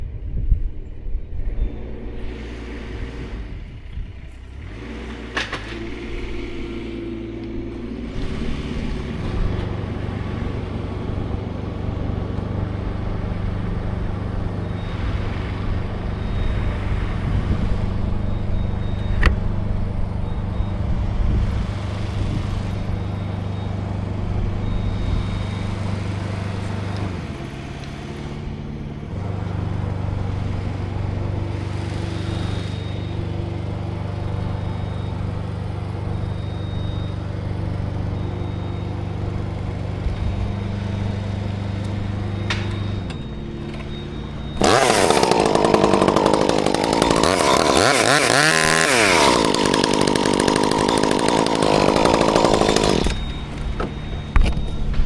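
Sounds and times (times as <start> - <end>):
large engine running: 0.0 - 55.0.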